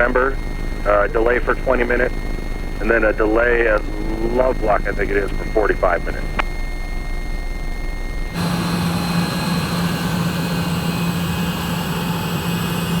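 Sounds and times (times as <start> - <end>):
twin piston engines droning: 0.0 - 13.0.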